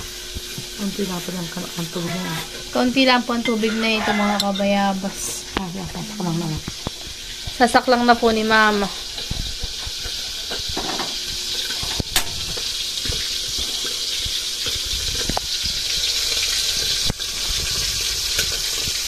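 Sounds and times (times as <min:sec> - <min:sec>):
gas burner hissing: 0:00.0 - 0:19.0.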